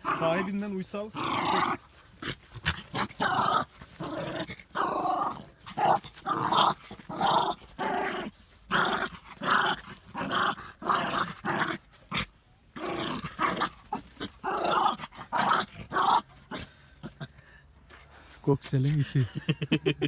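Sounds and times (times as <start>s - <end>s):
dog growling: 0.0s - 17.5s.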